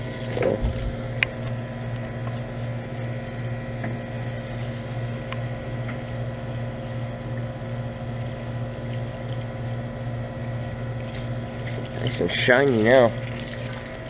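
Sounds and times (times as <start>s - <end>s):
condenser unit humming: 0.0s - 14.0s.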